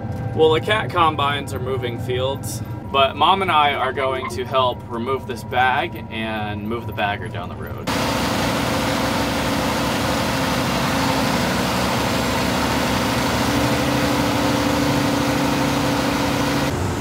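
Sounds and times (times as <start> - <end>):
heavy engine running: 0.0 - 17.0.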